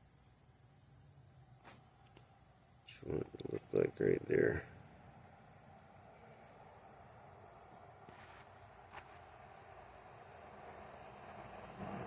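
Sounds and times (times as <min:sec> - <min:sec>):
cricket trill: 0:00.0 - 0:12.0.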